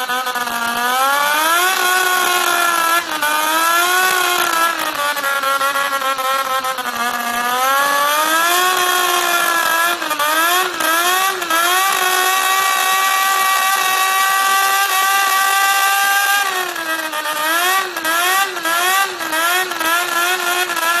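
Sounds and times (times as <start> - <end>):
model rotary engine revving: 0.0 - 21.0.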